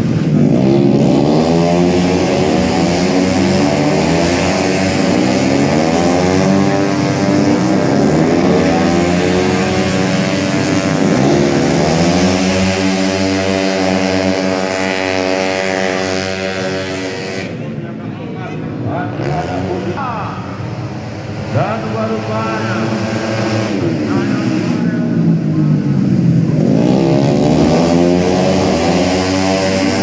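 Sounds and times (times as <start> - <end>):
scooter racing engines revving: 0.0 - 30.0.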